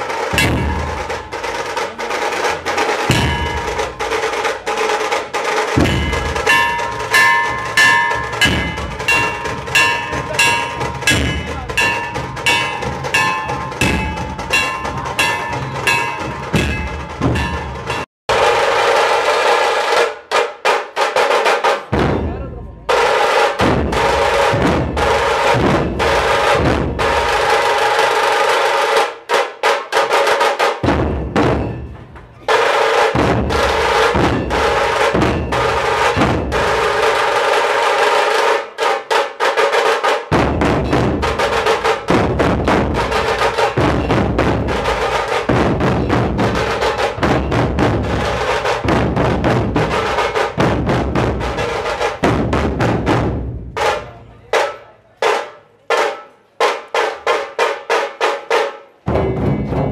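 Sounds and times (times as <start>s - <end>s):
heavy bass drum beats: 0.0s - 19.6s, 21.4s - 28.2s, 30.8s - 37.8s, 40.3s - 55.4s, 59.1s - 59.9s
rapid snare drum roll: 0.0s - 22.1s, 32.5s - 59.9s.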